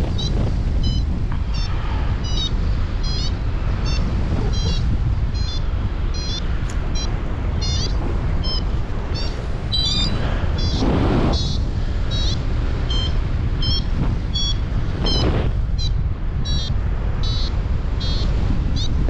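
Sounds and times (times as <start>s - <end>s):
variometer beeping in high tones: 0.0s - 19.0s
wind rushing over microphone: 0.0s - 19.0s.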